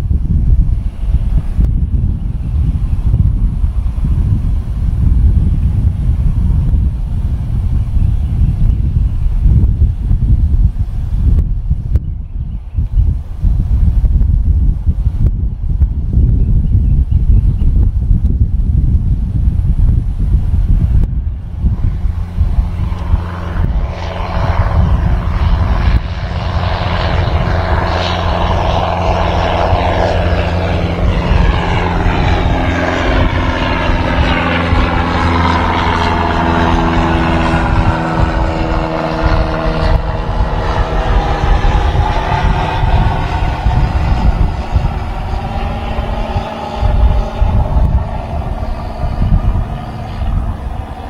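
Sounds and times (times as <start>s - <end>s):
jet engines rumbling and whining: 0.0s - 51.0s.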